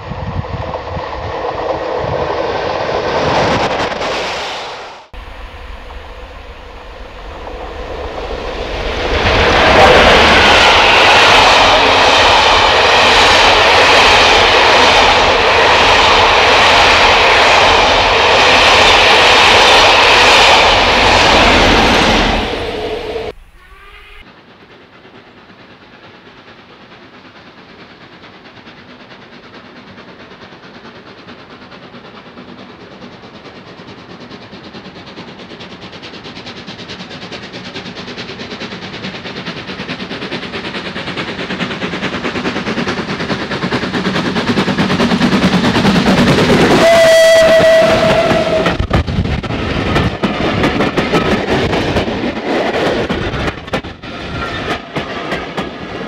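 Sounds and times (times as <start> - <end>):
distant train rumble: 0.0 - 56.0
steam locomotive passing: 0.0 - 56.0.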